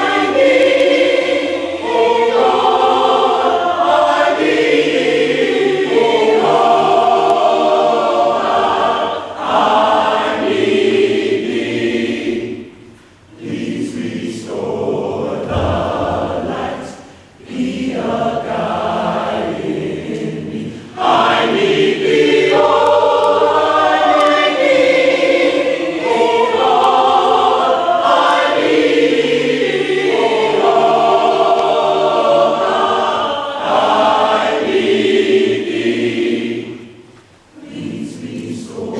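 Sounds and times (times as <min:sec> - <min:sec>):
choir singing chords: 0:00.0 - 0:38.9.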